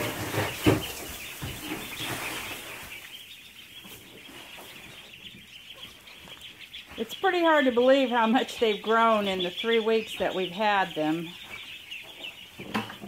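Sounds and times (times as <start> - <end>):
straw rustling: 0.0 - 12.8
ducklings peeping: 0.0 - 13.0.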